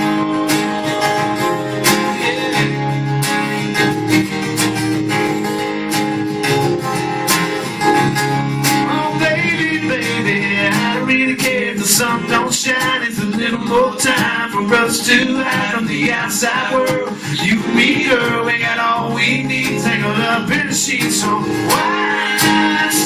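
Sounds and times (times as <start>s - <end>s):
strummed acoustic guitar chords: 0.0s - 23.0s.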